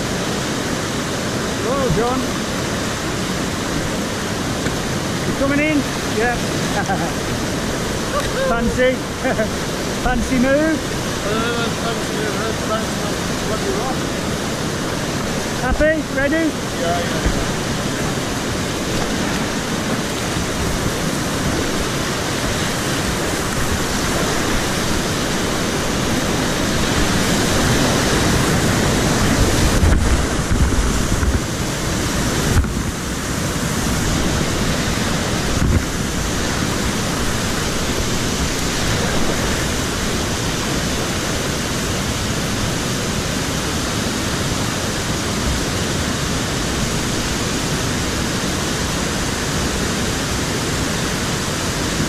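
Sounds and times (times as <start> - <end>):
whitewater rapids rushing: 0.0 - 52.0.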